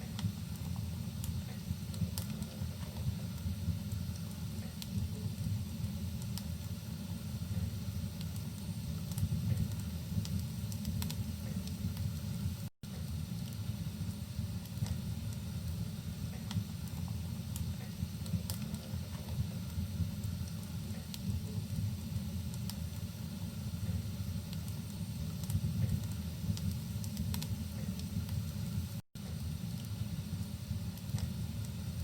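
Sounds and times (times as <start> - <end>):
low rumble and hiss of rain: 0.0 - 32.0
wood fire crackling: 0.0 - 32.0.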